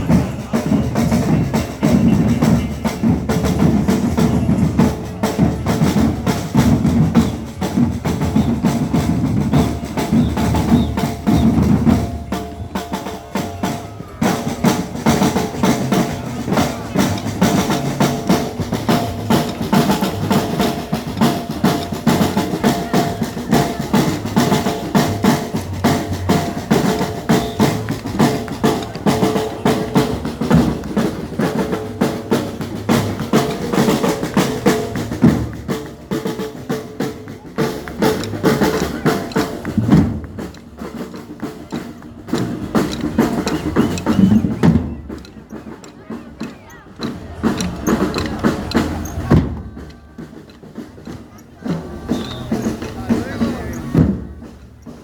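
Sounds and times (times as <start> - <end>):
bass drum and snare beat: 0.0 - 55.0.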